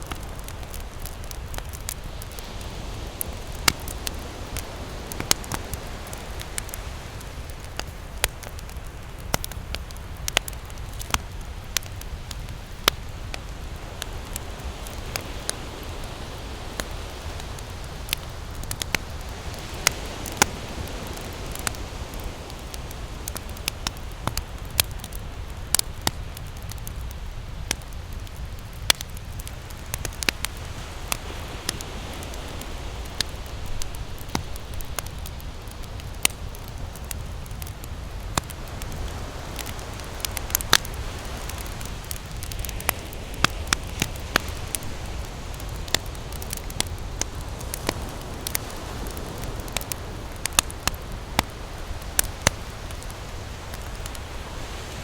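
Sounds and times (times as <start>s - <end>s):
ocean surf rushing: 0.0s - 24.6s, 29.7s - 37.3s, 37.9s - 55.0s
campfire crackling and popping: 0.0s - 55.0s.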